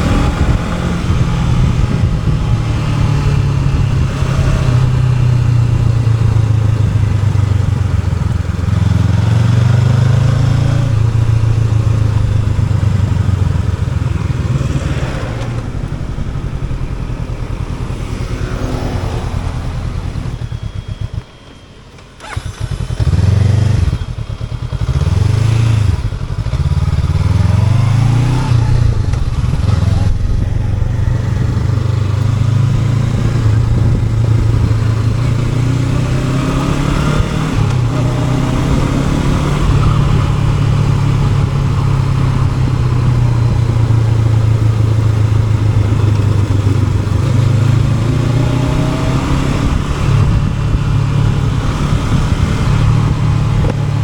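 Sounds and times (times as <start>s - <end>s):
motorcycle engine revving while riding: 0.0s - 21.6s, 22.2s - 54.0s.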